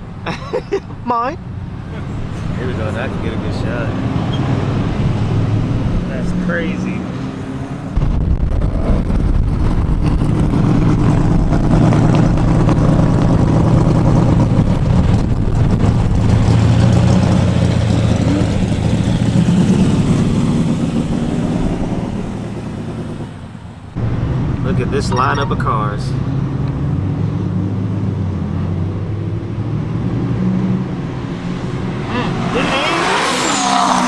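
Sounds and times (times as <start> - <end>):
loud car engine and exhaust: 0.0 - 34.0.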